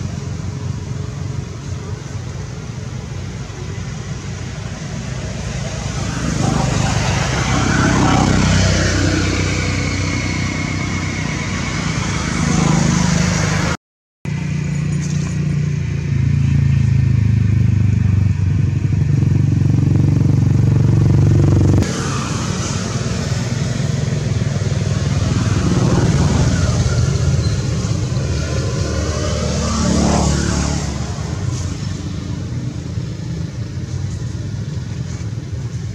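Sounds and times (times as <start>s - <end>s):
motor vehicle engines running: 0.0s - 35.9s.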